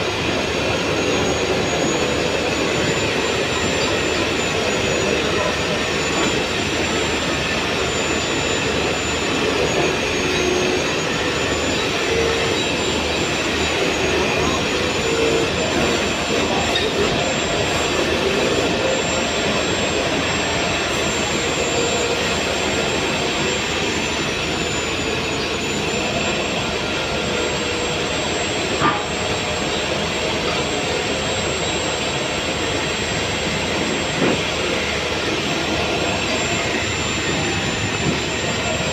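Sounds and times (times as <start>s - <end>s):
machine running with high whine: 0.0s - 38.9s.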